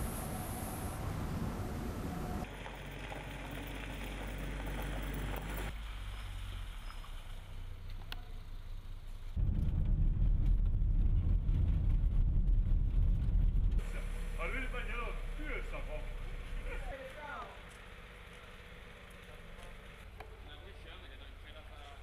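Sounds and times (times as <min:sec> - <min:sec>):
low engine hum: 0:00.0 - 0:21.5.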